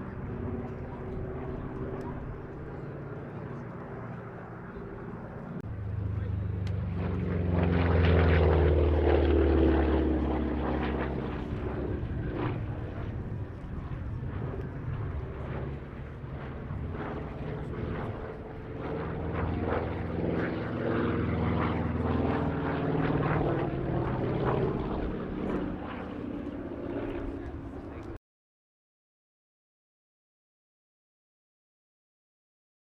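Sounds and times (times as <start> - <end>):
propeller aircraft engine passing: 0.0 - 28.2.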